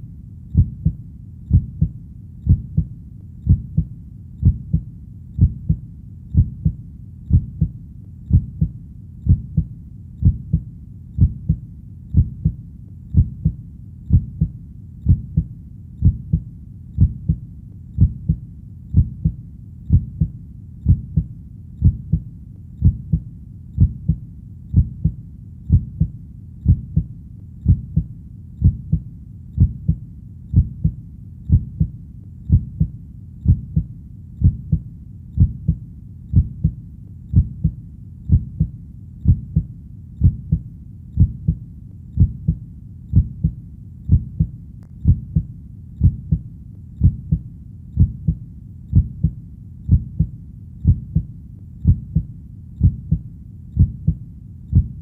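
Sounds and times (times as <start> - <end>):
slow heartbeat: 0.0 - 55.0.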